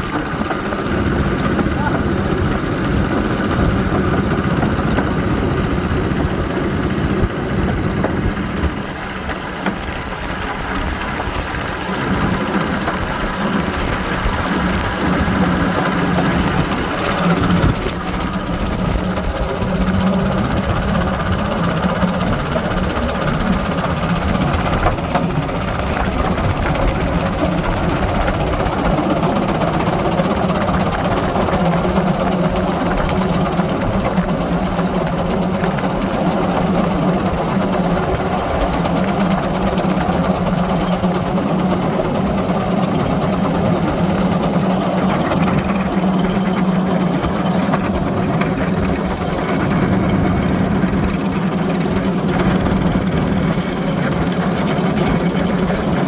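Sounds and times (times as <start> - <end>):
railcart engine drone: 0.0 - 56.0
wheels rumbling on track: 0.0 - 56.0.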